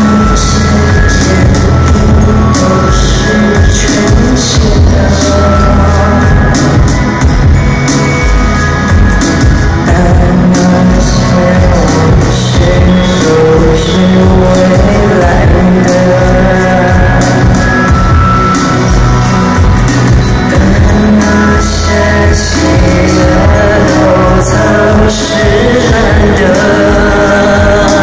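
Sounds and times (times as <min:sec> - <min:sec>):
drums: 0:00.0 - 0:28.0
live band playing pop-rock: 0:00.0 - 0:28.0
sustained melody line: 0:00.0 - 0:28.0.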